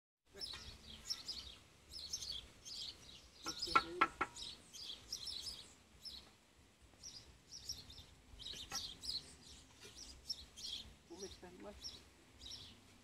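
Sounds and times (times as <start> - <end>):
birds chirping: 0.3 - 13.0.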